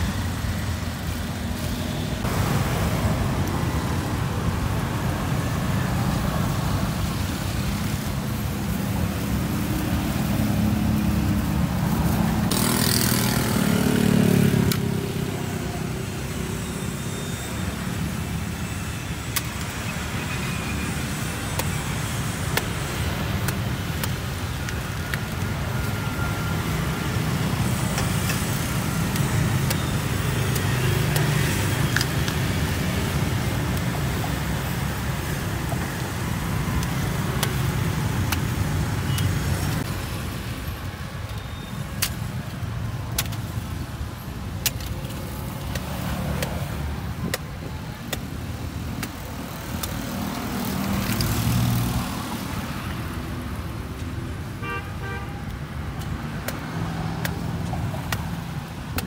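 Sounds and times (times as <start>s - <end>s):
street traffic: 0.0s - 59.0s.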